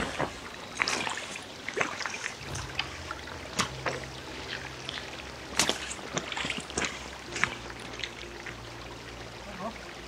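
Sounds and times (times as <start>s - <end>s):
footsteps splashing through water: 0.0s - 8.3s
stream trickling over stones: 0.0s - 10.0s.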